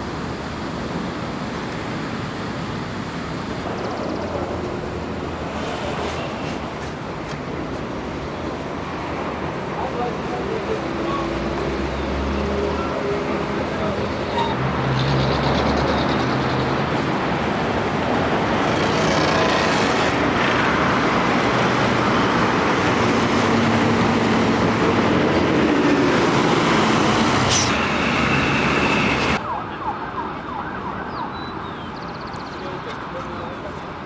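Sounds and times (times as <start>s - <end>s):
road traffic roar: 0.0s - 34.0s.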